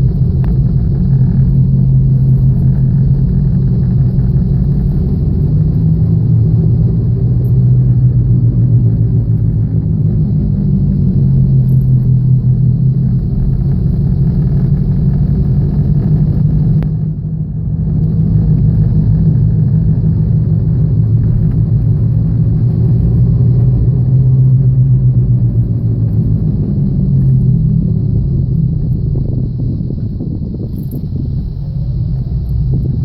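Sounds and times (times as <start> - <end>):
wheel bearing drone: 0.0 - 33.0.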